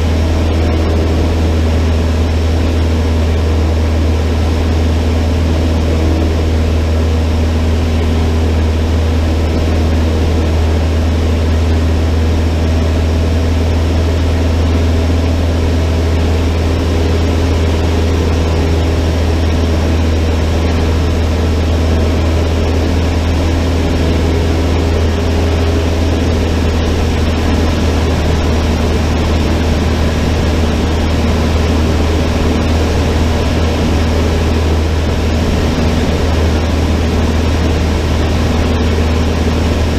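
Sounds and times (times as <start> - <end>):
small plane engine drone: 0.0 - 39.9.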